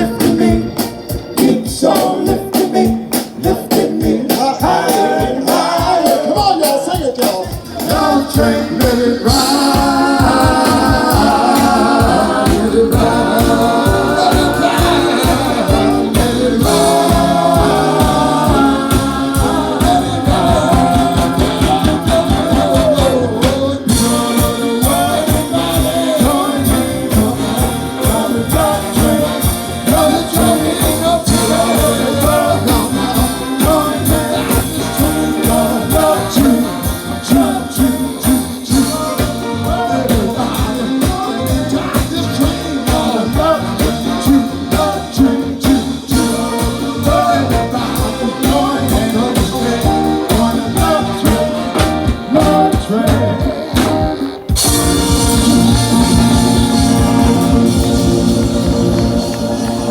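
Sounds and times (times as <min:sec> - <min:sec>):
live soul band playing: 0:00.0 - 0:59.9
singing with vocal harmonies: 0:00.0 - 0:59.9.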